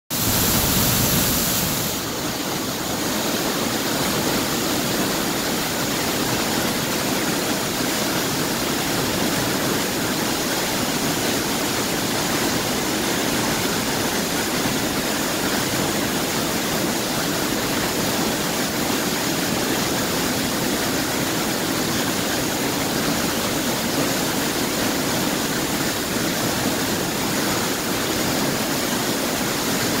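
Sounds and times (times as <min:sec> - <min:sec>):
water rushing down spillway: 0:00.1 - 0:30.0.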